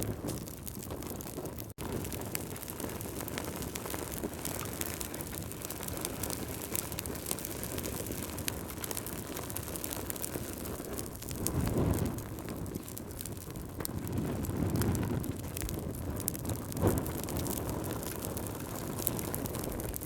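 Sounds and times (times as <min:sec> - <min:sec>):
fire crackling in fireplace: 0:00.0 - 0:20.0.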